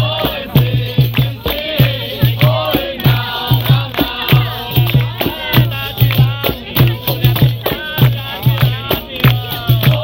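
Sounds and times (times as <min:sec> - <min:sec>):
low hand drum beat: 0:00.0 - 0:10.0
rattling hand percussion: 0:00.0 - 0:10.0
voices singing: 0:00.0 - 0:10.0.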